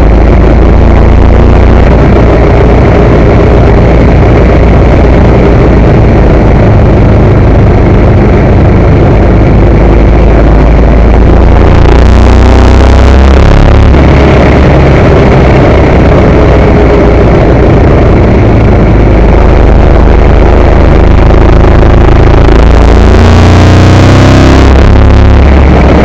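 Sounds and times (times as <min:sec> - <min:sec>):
motorcycle engine running hard: 0:00.0 - 0:26.0
wind rush over microphone: 0:00.0 - 0:26.0.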